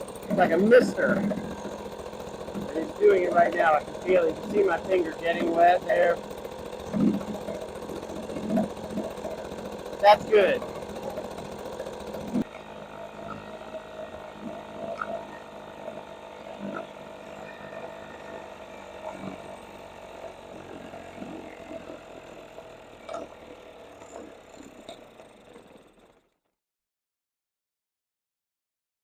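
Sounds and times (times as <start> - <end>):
outboard motor idling: 0.0 - 26.5.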